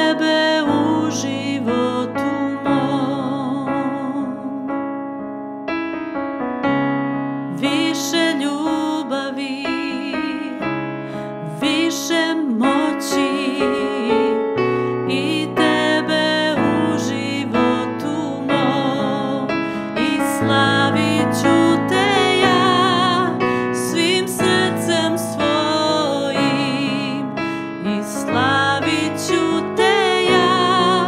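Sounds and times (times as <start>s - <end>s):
woman singing with vibrato: 0.0s - 4.7s, 7.5s - 10.6s, 11.4s - 31.0s
electric keyboard piano chords: 0.0s - 31.0s.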